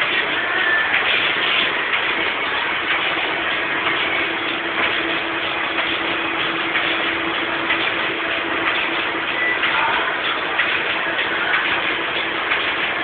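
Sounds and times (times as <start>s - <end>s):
machine clattering and humming: 0.0s - 13.0s.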